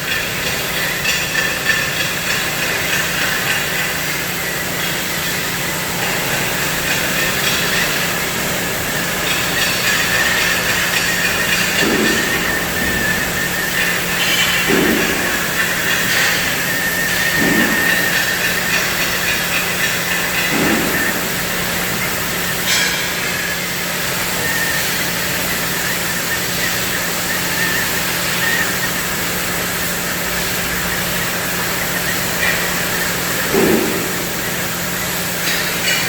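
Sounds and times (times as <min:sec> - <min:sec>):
low machine hum: 0:00.0 - 0:36.0
cutting torch hissing: 0:02.4 - 0:36.0.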